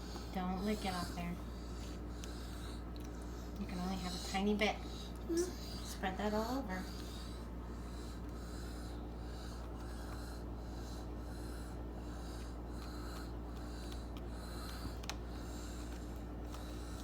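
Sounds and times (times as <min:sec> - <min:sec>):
steady low hum: 0:00.0 - 0:17.0
wheezing breathing: 0:00.0 - 0:17.0.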